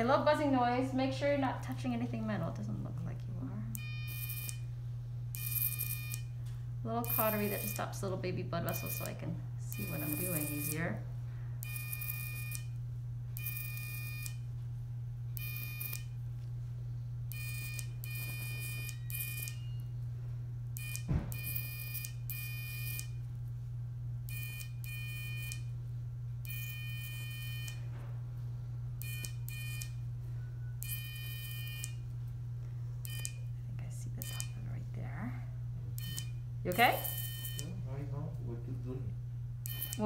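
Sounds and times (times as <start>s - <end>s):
electrocautery unit beeping: 0.0s - 14.6s, 15.3s - 16.2s, 17.2s - 23.4s, 24.2s - 25.8s, 26.4s - 28.1s, 28.9s - 32.2s, 33.0s - 34.8s, 35.9s - 38.3s, 39.6s - 40.0s
low hum: 0.0s - 40.0s.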